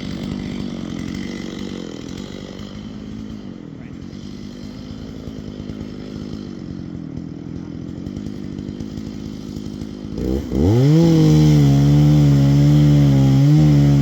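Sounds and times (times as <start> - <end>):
chainsaw idling and revving: 0.0 - 14.0.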